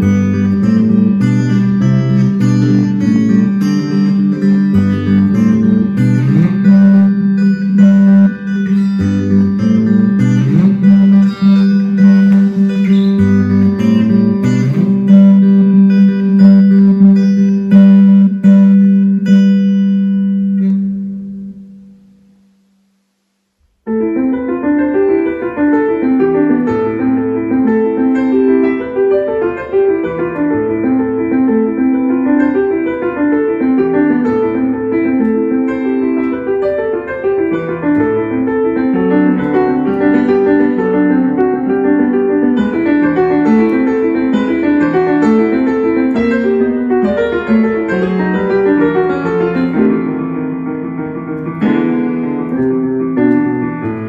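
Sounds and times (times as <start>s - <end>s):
solo piano piece: 0.0s - 23.0s, 23.6s - 54.0s.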